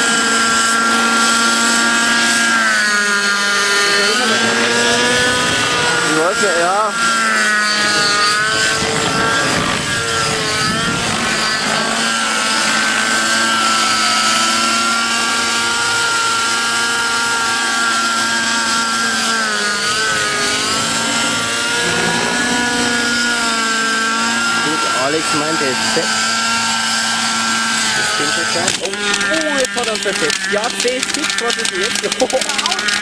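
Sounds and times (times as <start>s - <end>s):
model helicopter buzzing whine: 0.0s - 33.0s.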